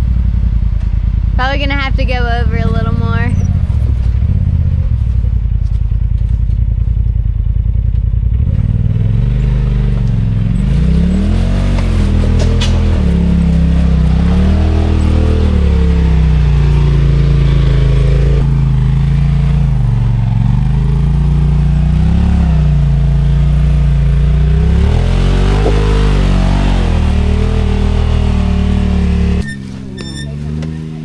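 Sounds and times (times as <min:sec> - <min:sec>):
vehicle engine revving: 0:00.0 - 0:31.0.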